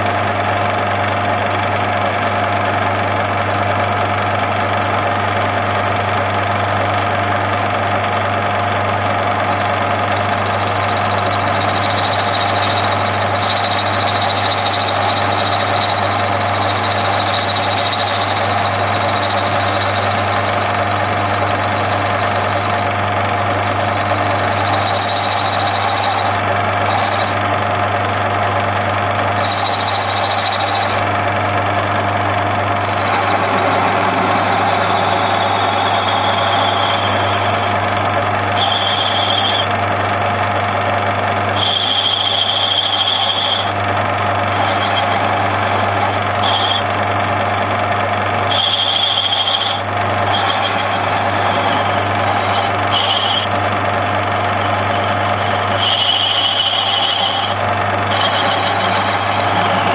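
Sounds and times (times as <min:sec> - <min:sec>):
metal lathe motor hum: 0:00.0 - 0:59.9
high squeal of cutting: 0:08.1 - 0:27.7, 0:28.8 - 0:31.2, 0:32.3 - 0:39.8, 0:40.9 - 0:59.9.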